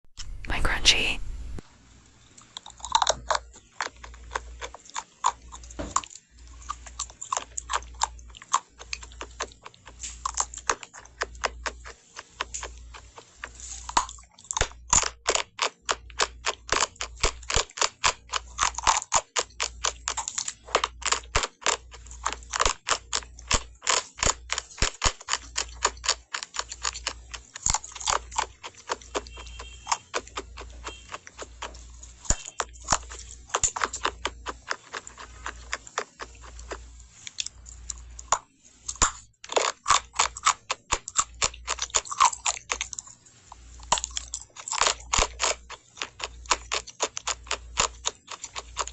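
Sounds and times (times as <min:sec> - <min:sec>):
crunching and chewing: 0:02.2 - 0:48.9.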